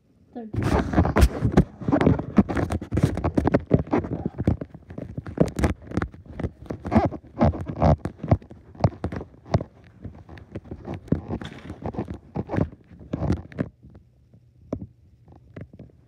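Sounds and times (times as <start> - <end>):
phone handling rubs and taps: 0.6 - 13.7.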